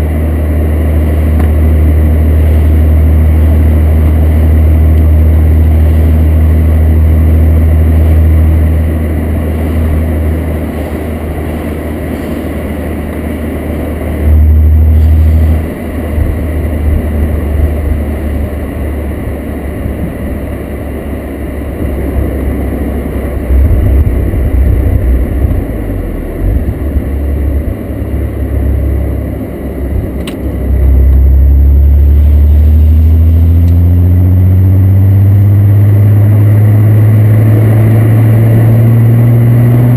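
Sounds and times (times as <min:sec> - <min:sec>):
deep car exhaust drone: 0:00.0 - 0:39.9
road noise: 0:00.0 - 0:39.9.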